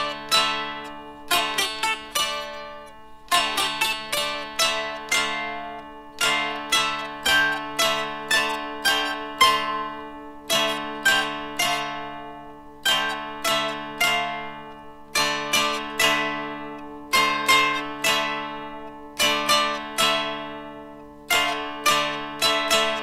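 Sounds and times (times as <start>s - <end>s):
dulcimer string drone: 0.0s - 23.0s
plucked dulcimer melody: 0.0s - 23.0s.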